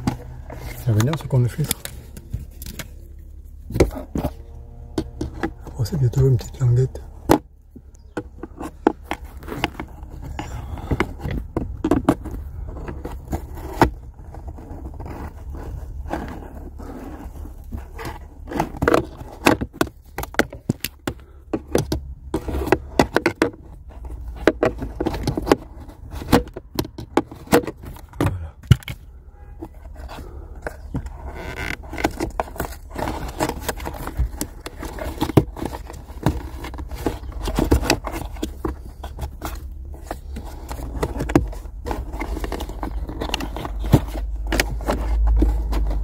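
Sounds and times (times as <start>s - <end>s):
hands scraping on plastic: 0.0s - 46.0s.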